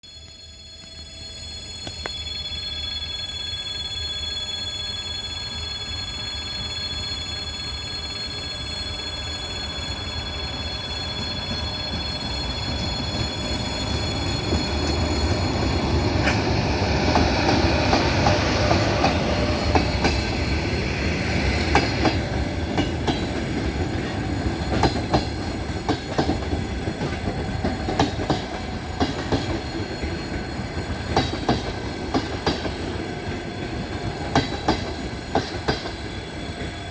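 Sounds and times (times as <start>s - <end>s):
electric locomotive whining: 0.1s - 36.9s
train wheels clicking over rail joints: 7.3s - 36.9s.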